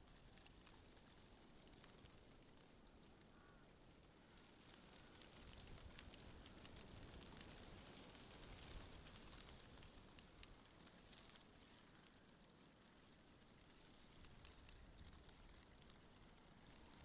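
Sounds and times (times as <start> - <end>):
soft crackling ticks: 0.0 - 17.0.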